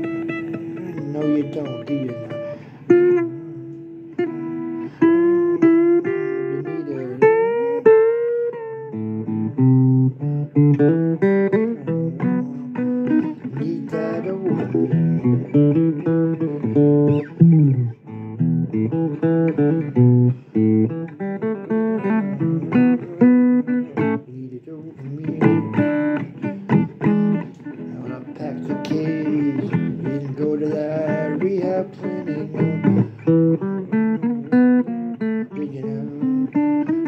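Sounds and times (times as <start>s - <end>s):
blues guitar with bent notes: 0.0s - 37.0s.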